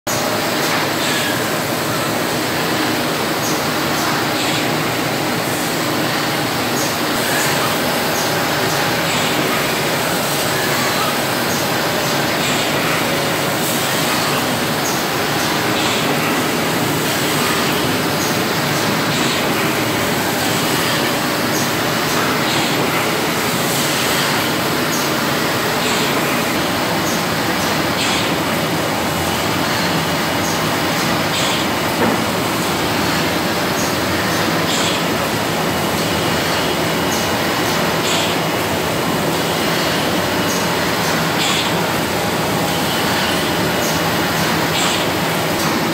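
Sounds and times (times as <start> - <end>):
printing press running: 0.1 - 45.9.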